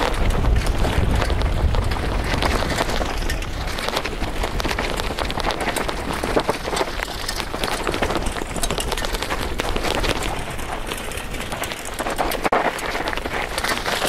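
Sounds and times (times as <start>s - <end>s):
mountain bike rattling over rocks: 0.0s - 14.0s
steady rushing noise: 0.0s - 14.0s.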